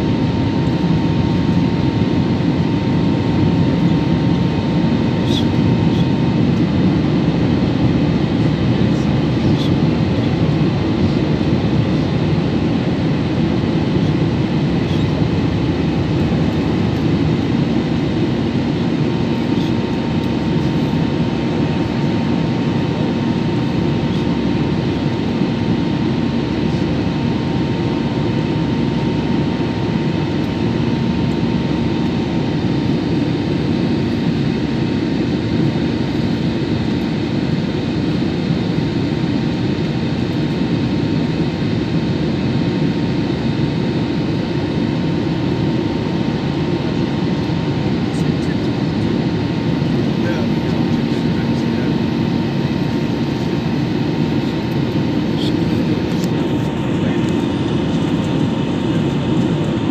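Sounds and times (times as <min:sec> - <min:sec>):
jet engines running: 0:00.0 - 0:59.9
steady cabin hum: 0:00.0 - 0:59.9.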